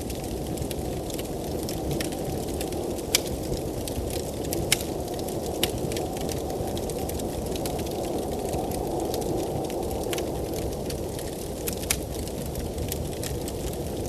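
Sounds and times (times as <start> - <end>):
wood fire crackling and popping: 0.0 - 14.0
blizzard wind rushing: 0.1 - 14.0.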